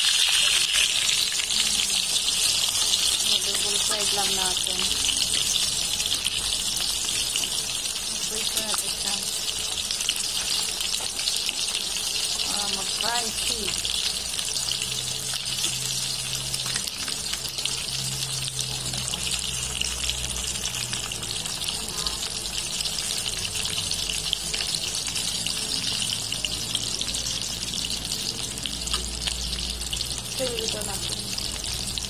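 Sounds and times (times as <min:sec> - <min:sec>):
fish deep-frying in hot oil: 0:00.0 - 0:32.0.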